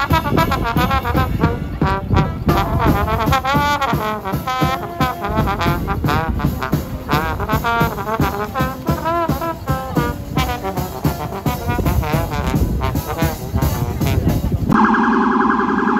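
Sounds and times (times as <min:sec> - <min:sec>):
saxophone: 0:00.0 - 0:14.4
drum kit beat: 0:00.0 - 0:14.8
trombone melody: 0:00.0 - 0:15.9.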